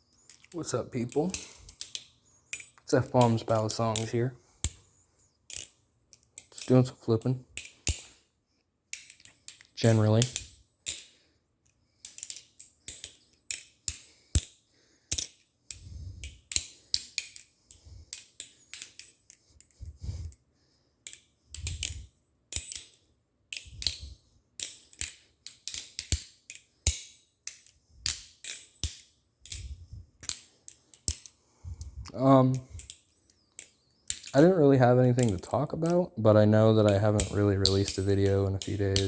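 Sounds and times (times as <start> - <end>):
butterfly knife handles clacking: 0.1 - 8.2, 8.9 - 20.4, 21.0 - 39.0.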